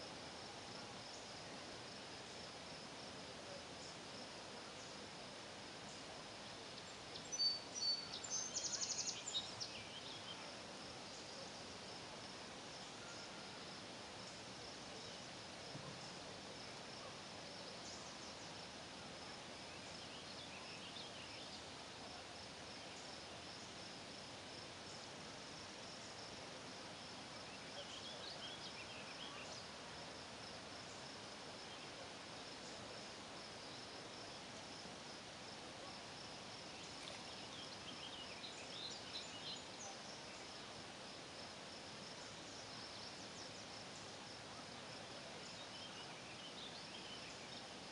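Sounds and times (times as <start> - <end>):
faint hiss: 0.0 - 47.9.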